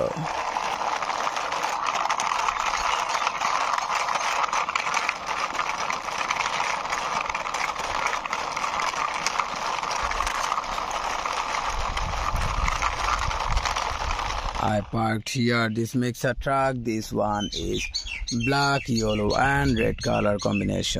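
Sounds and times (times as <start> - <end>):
toy truck wheels rolling on concrete: 0.0 - 20.9.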